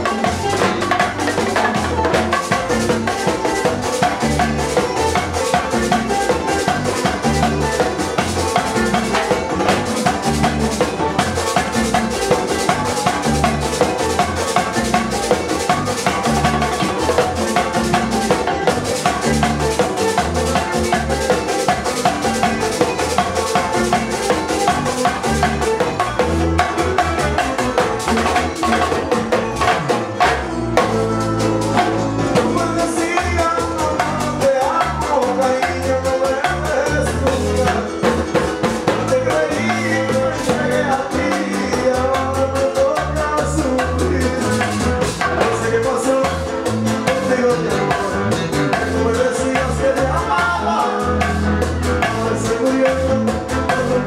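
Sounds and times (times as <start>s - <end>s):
live latin band music: 0.0s - 54.0s.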